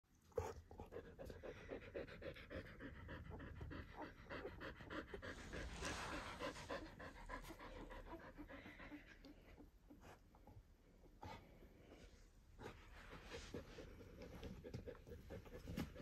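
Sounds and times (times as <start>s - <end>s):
dog panting: 0.3s - 16.0s.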